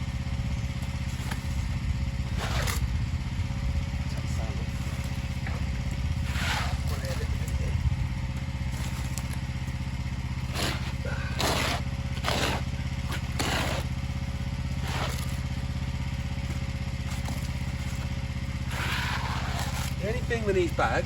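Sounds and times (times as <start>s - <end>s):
pressure washer engine droning: 0.0s - 21.0s
shovel scraping paving: 1.0s - 3.0s, 4.6s - 7.7s, 8.6s - 21.0s.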